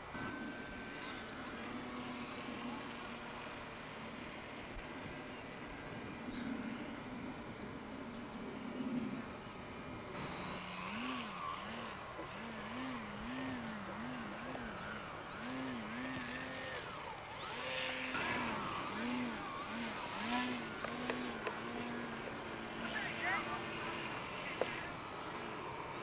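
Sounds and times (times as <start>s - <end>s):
model plane motor and propeller: 0.0s - 26.0s.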